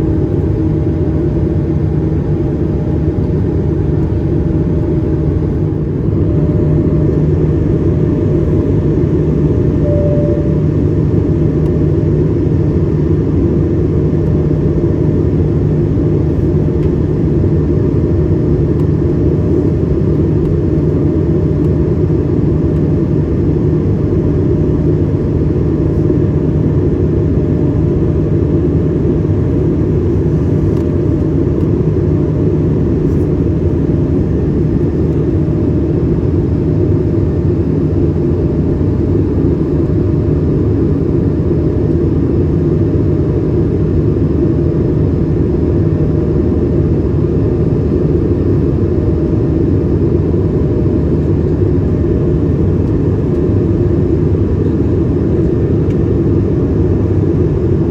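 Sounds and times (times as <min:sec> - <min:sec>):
airliner cabin rumble: 0:00.0 - 0:57.9
faint steady hum: 0:00.0 - 0:57.9.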